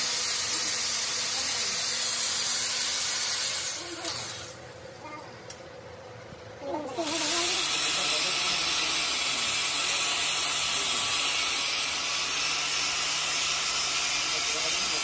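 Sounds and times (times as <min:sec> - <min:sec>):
angle grinder grinding steel: 0:00.0 - 0:04.6, 0:06.9 - 0:15.0.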